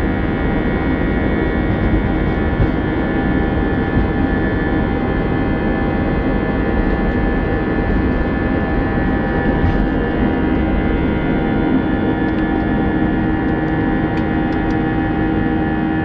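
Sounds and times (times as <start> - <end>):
jet engines in aircraft cabin: 0.0 - 16.0.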